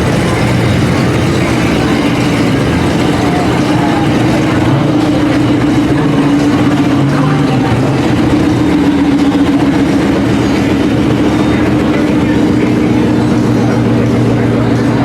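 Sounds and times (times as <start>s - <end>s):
car engines idling and rumbling: 0.0s - 15.0s.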